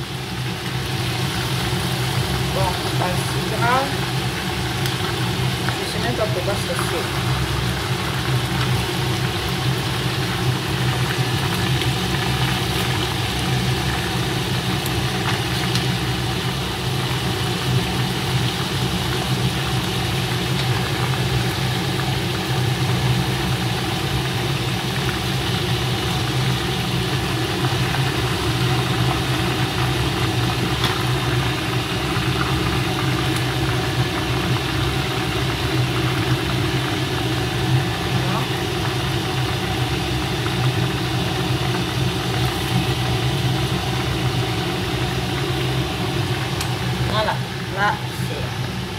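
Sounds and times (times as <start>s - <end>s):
fish sizzling in hot oil: 0.0s - 48.9s.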